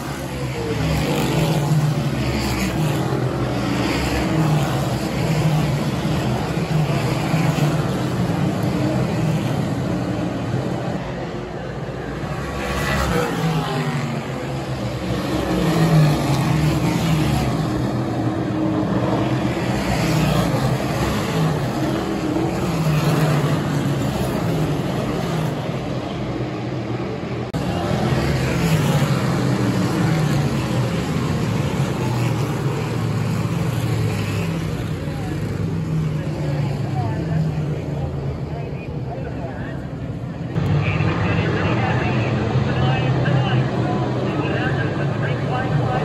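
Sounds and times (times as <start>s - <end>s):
race car engines roaring: 0.0s - 46.0s.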